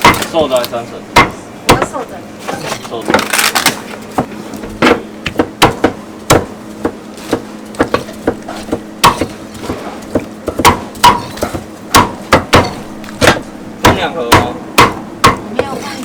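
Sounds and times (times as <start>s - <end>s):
cleaver chopping meat on wood: 0.0s - 2.0s, 4.1s - 15.8s.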